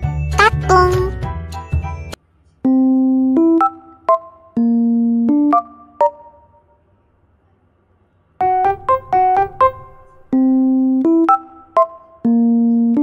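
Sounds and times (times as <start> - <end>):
playful keyboard music: 0.0 - 2.0, 2.6 - 6.7, 8.4 - 13.0.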